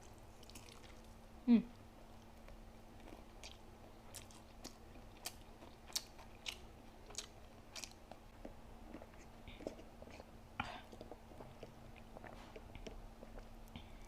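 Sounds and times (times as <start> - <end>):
person chewing food: 0.0 - 1.2, 2.1 - 14.0.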